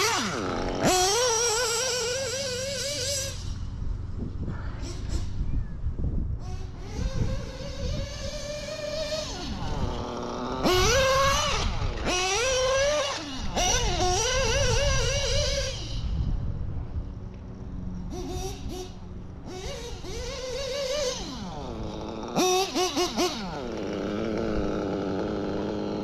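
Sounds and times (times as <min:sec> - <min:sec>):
model car nitro engine revving: 0:00.0 - 0:03.9, 0:06.4 - 0:16.2, 0:18.0 - 0:26.0.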